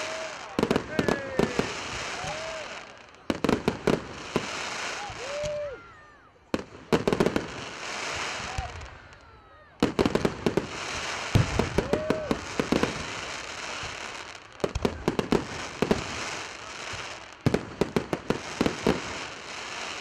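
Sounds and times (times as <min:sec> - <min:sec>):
firework crackle: 0:00.0 - 0:05.8, 0:06.5 - 0:20.0.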